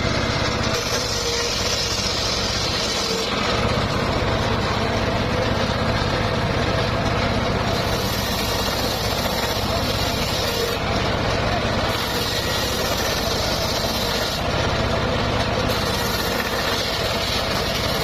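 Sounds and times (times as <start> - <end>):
saw blade cutting log: 0.0 - 18.0
sawmill engine humming: 0.0 - 18.0.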